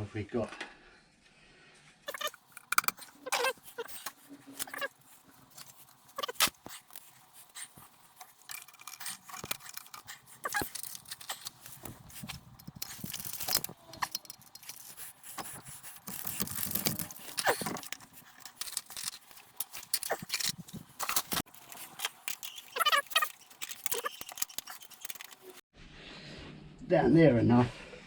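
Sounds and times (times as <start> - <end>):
metal parts clicking and knocking: 2.1 - 25.6.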